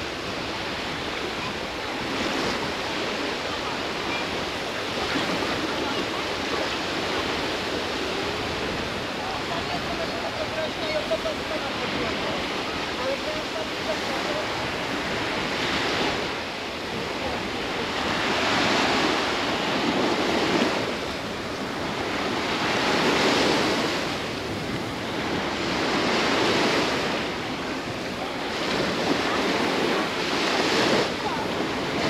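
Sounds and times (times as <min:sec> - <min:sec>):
waves breaking on a sandy shore: 0:00.0 - 0:32.0.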